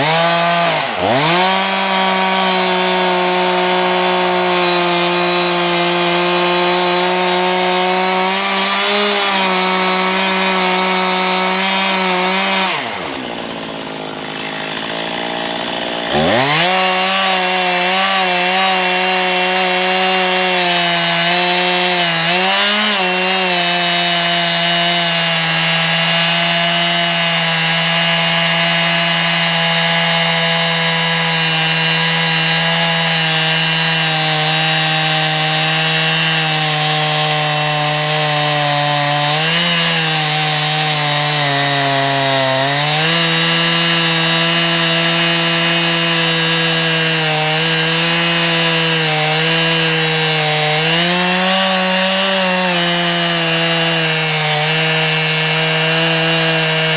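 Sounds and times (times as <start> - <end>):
chainsaw ripping log: 0.0 - 56.9.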